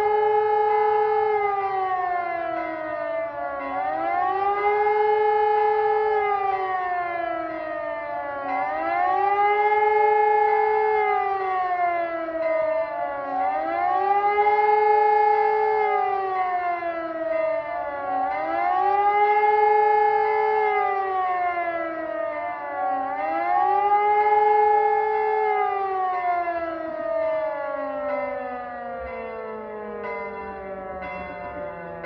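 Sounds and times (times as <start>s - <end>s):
civil defence siren wailing: 0.0s - 32.0s.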